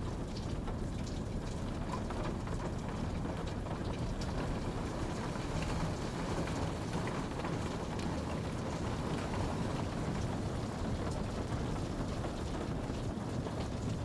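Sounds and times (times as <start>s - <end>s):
raindrops pattering on a surface: 0.0s - 14.0s
steady rainfall: 0.0s - 14.0s.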